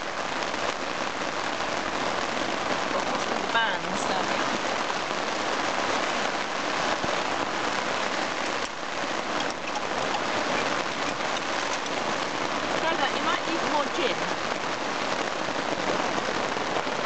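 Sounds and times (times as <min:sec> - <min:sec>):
rain on tent fabric: 0:00.0 - 0:17.0.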